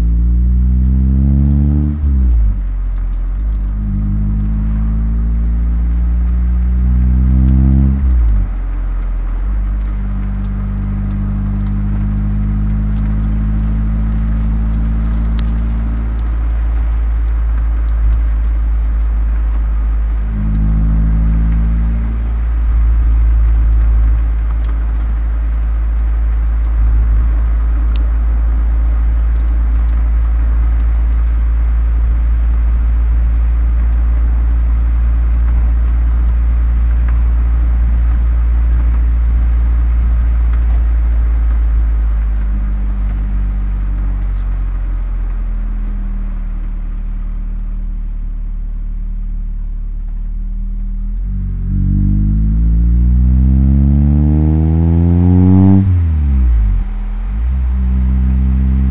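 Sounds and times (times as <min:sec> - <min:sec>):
car engine droning: 0:00.0 - 0:58.9.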